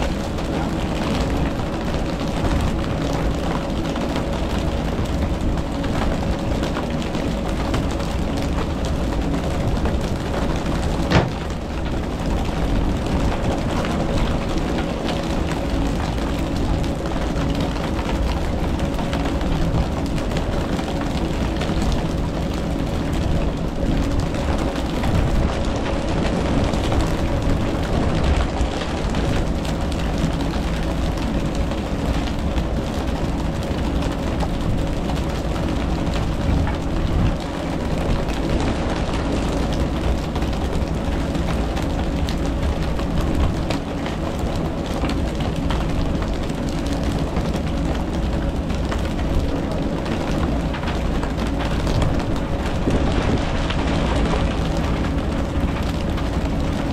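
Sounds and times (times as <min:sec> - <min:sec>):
boat engine humming: 0:00.0 - 0:56.9
wind and water rushing: 0:00.0 - 0:56.9.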